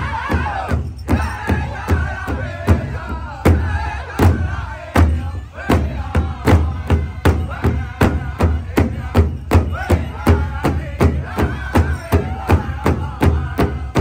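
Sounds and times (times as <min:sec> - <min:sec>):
drum steady beat: 0:00.0 - 0:14.0
group of voices singing: 0:00.0 - 0:14.0.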